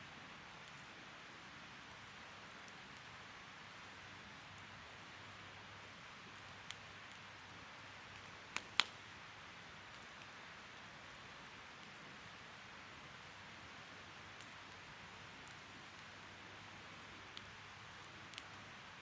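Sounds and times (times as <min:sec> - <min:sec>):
wood fire hissing: 0:00.5 - 0:19.0
fire crackling pops: 0:02.1 - 0:16.4, 0:17.1 - 0:19.0.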